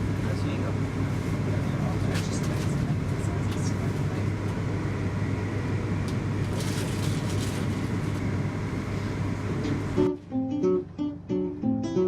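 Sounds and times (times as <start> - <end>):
vehicle engine low rumble: 0.0 - 10.3.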